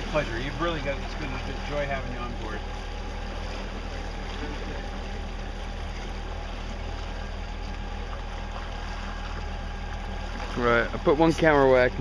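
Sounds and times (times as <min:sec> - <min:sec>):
boat engine humming: 0:00.0 - 0:12.0
water noise: 0:00.0 - 0:12.0.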